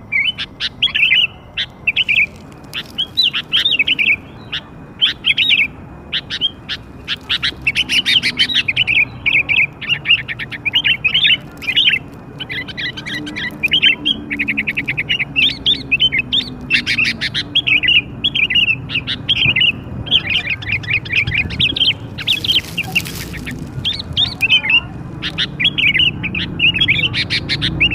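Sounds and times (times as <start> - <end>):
bulbul chirping and chattering: 0.0 - 27.9.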